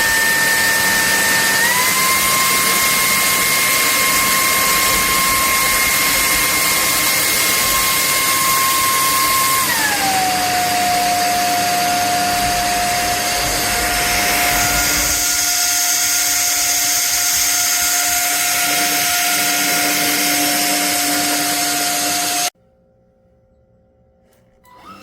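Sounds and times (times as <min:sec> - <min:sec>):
vacuum cleaner running: 0:00.0 - 0:22.5, 0:24.7 - 0:25.0.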